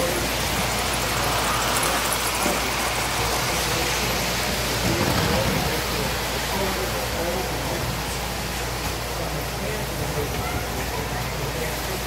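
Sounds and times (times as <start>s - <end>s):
toy trains running on track: 0.0s - 12.0s.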